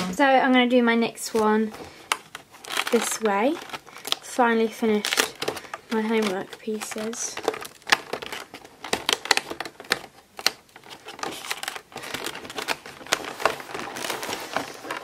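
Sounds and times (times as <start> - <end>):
cardboard rustling: 1.1 - 15.0.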